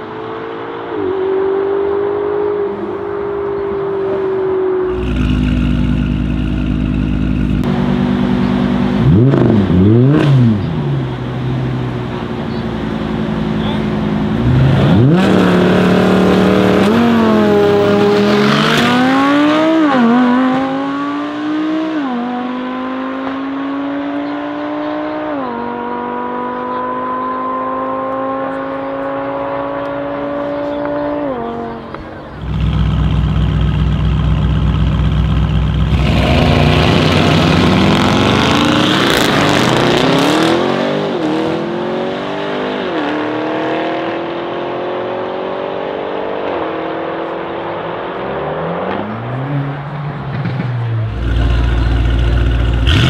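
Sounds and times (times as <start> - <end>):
car engines revving with upshifts: 0.0 - 53.0
deep loud car engine: 0.0 - 53.0.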